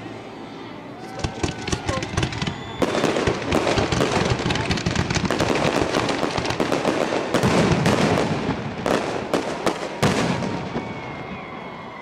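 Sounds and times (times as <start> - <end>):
fireworks booming and crackling: 1.1 - 11.9.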